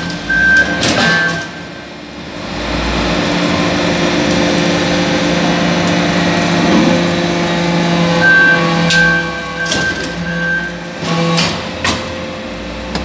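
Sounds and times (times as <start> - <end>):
higher machine whine: 0.0 - 13.0
hydraulic machine hum: 0.0 - 13.0.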